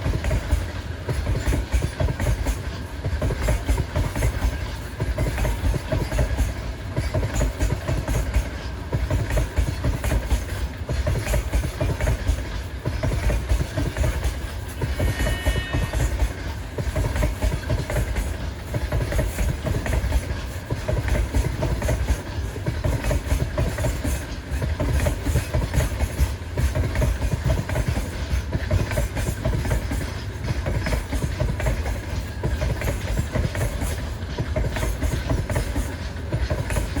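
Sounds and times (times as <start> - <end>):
train rumbling past: 0.0 - 37.0
wheels clacking over rail joints: 0.0 - 37.0.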